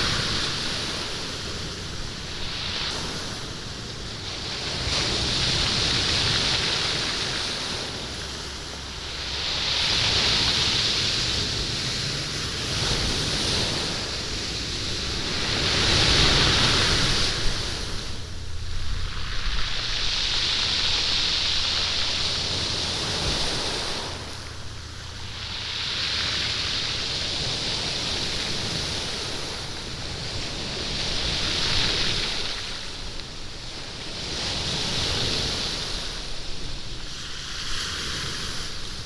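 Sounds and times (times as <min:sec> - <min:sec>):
waves rolling beach stones: 0:00.0 - 0:39.0.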